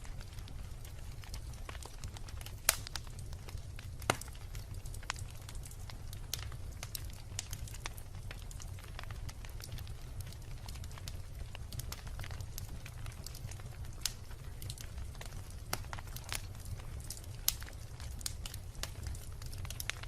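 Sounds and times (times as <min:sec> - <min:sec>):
bonfire crackling and popping: 0:00.0 - 0:20.0
low rumble of flame: 0:00.0 - 0:20.0.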